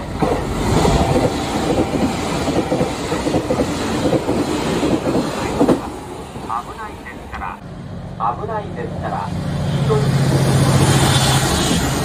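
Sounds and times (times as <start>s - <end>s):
train wheels rumbling and clattering: 0.0s - 7.6s, 8.3s - 12.0s.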